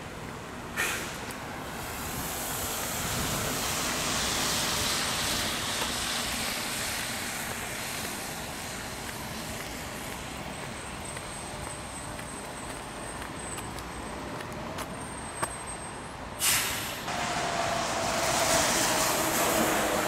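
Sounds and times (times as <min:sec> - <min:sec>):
tyres hissing on wet road: 0:00.1 - 0:14.2, 0:16.4 - 0:20.0.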